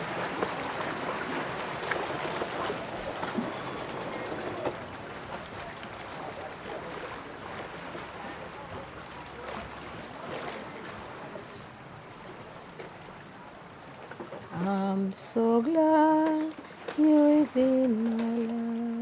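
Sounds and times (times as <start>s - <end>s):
sea water washing: 0.0s - 12.7s, 14.6s - 19.0s.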